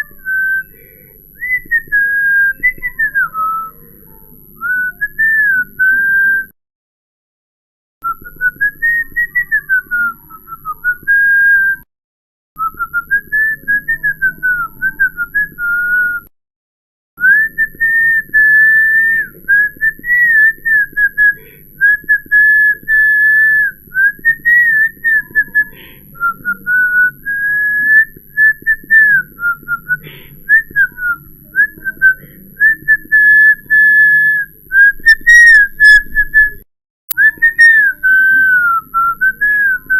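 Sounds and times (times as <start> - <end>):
person whistling a tune: 0.0 - 3.8, 4.6 - 6.6, 8.0 - 11.9, 12.6 - 16.3, 17.2 - 39.9.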